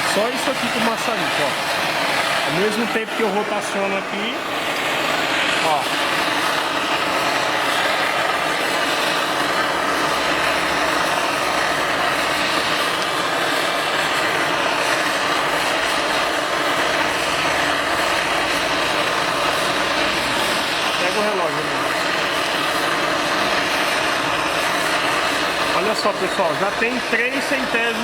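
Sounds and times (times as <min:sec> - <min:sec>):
gas torch flame hissing: 0:00.0 - 0:28.0.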